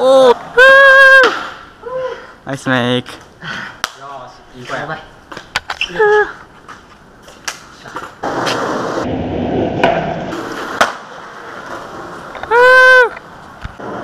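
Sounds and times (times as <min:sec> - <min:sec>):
skateboard wheels rolling on concrete: 0:00.0 - 0:01.9, 0:04.4 - 0:14.0.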